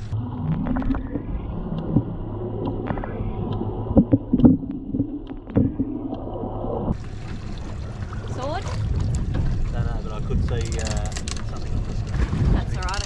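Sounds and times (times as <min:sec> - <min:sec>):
boat engine hum underwater: 0:00.0 - 0:13.0.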